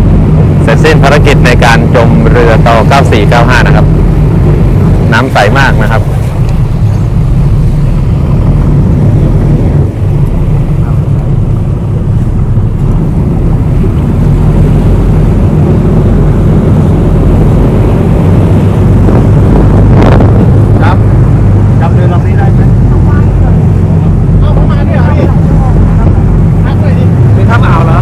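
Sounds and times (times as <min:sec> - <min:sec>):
boat engine droning: 0:00.0 - 0:28.0
wind buffeting microphone: 0:00.0 - 0:28.0.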